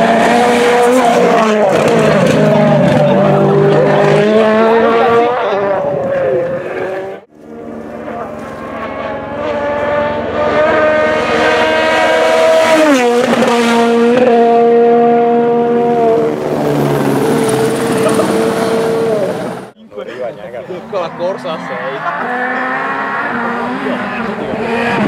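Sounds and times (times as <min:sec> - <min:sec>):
rally car engine passing by: 0:00.0 - 0:19.7, 0:20.5 - 0:25.0.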